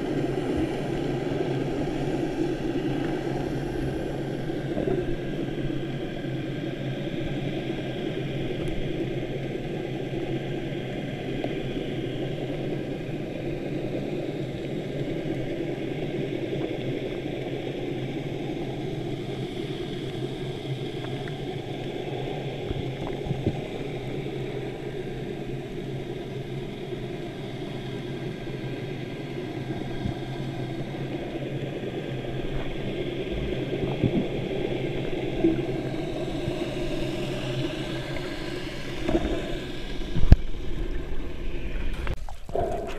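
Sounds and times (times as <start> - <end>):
muffled underwater rush: 0.0 - 42.9.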